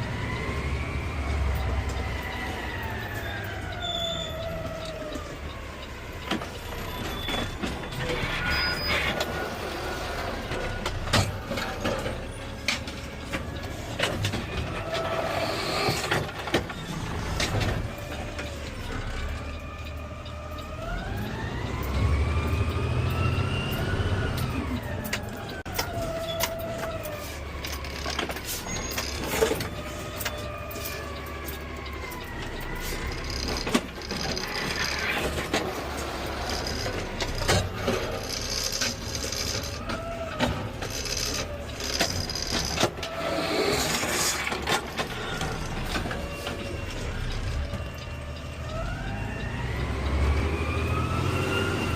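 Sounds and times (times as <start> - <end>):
garbage truck engine rumble: 0.0 - 51.9.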